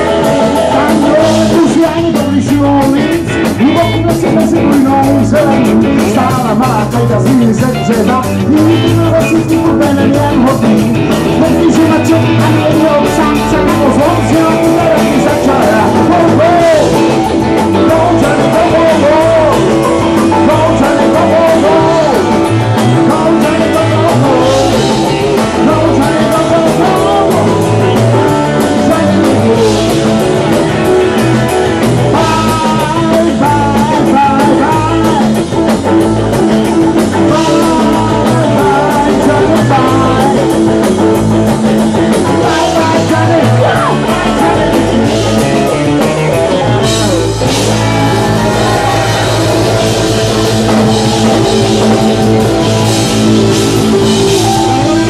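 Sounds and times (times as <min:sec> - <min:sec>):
bending lead guitar line: 0:00.0 - 0:55.0
blues-rock band playing: 0:00.0 - 0:55.0.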